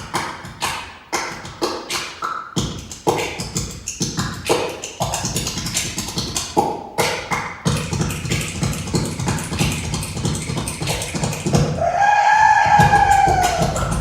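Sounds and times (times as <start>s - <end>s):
beatboxing mouth sounds: 0.0s - 14.0s
deep beat: 2.6s - 14.0s.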